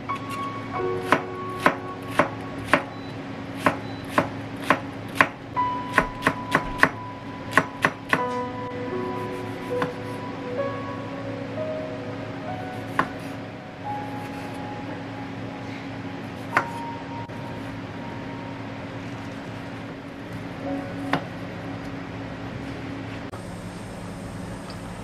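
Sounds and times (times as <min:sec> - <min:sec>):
soft background music: 0:00.0 - 0:23.3
low hum: 0:00.0 - 0:25.0.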